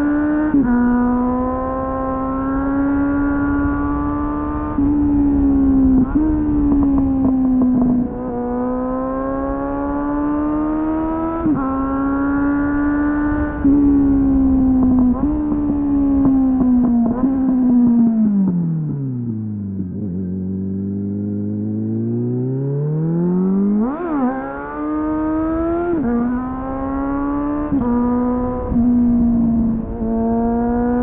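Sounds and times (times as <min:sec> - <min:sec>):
motorcycle engine while riding: 0:00.0 - 0:31.0.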